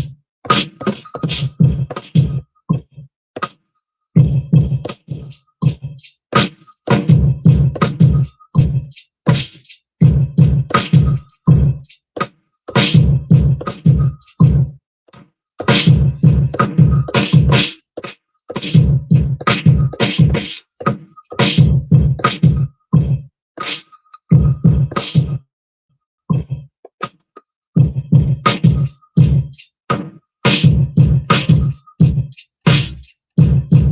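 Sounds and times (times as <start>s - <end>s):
hip-hop beat with heavy bass: 0.0s - 3.0s, 4.2s - 14.7s, 15.6s - 25.4s, 26.3s - 26.7s, 27.8s - 33.9s.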